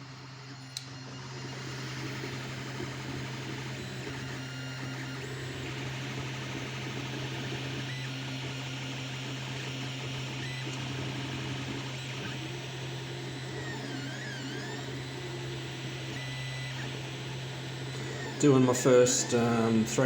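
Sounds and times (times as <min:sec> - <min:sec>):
stepper motors whining: 0:00.3 - 0:20.0.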